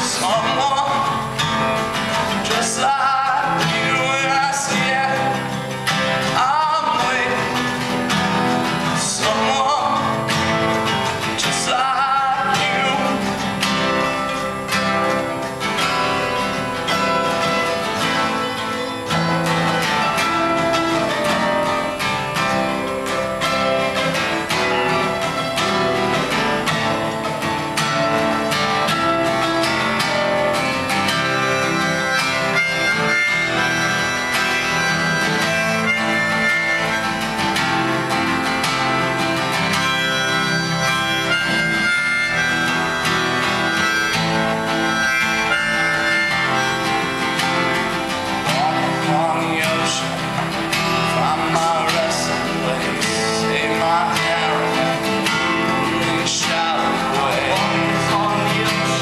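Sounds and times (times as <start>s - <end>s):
acoustic guitars strumming and picking: 0.0s - 59.0s
sustained melody line: 0.0s - 59.0s.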